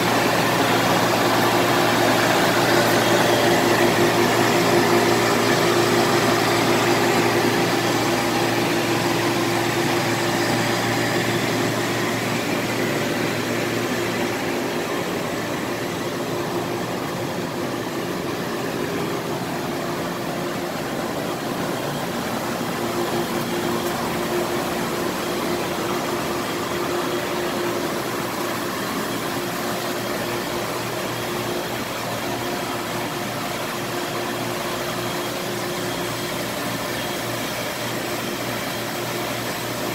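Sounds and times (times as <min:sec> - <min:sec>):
pump motors humming: 0:00.0 - 0:39.9.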